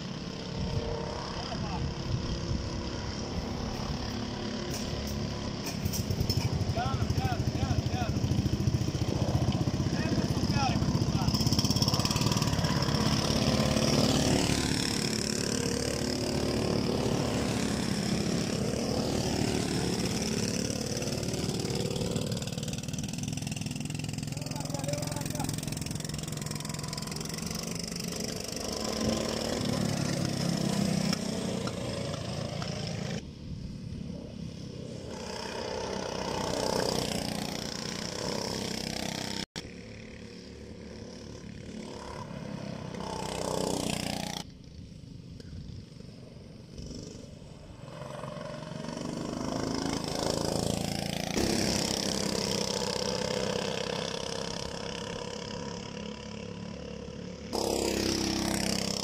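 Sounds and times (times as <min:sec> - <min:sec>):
go-kart engines passing: 0:00.0 - 0:59.0.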